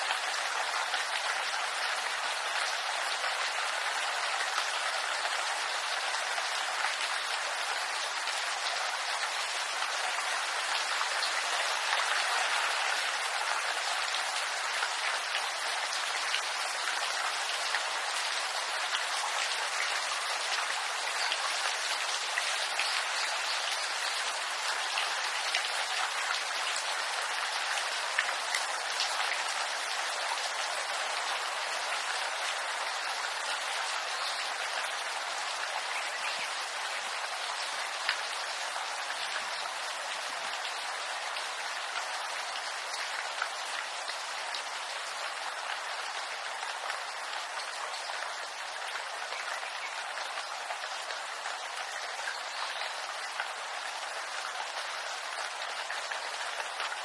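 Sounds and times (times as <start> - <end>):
rain hissing on leaves: 0.0 - 57.0.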